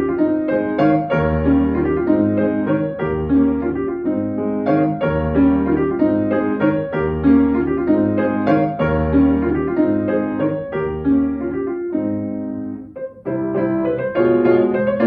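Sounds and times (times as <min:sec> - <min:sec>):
solo classical piano: 0:00.0 - 0:15.0.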